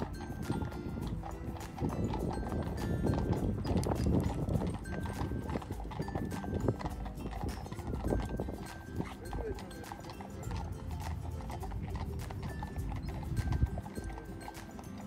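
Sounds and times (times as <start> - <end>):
hooves clip-clopping on road: 0.0 - 15.0.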